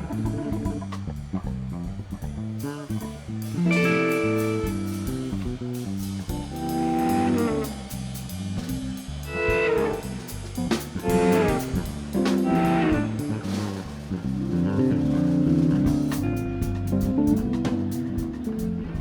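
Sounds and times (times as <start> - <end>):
electric guitar lead: 0.0 - 1.8, 2.7 - 19.0
live band playing: 0.0 - 19.0.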